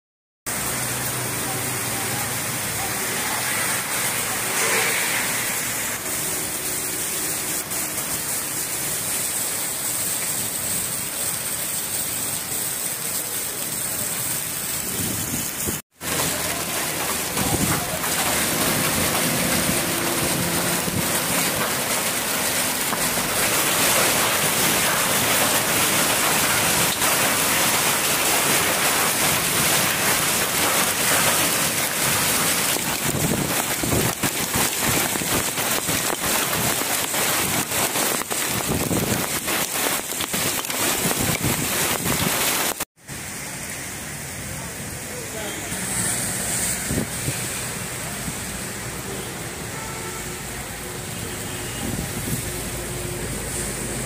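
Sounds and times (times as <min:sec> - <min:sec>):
heavy rain pouring: 0:00.5 - 0:54.0.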